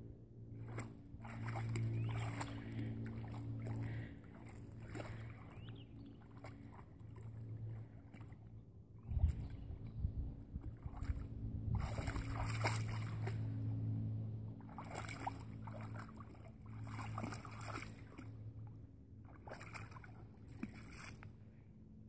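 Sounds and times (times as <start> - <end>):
low steady hum: 0.0 - 22.0
dog splashing in puddle: 0.6 - 9.6, 10.6 - 14.0, 14.6 - 18.4, 19.2 - 21.3.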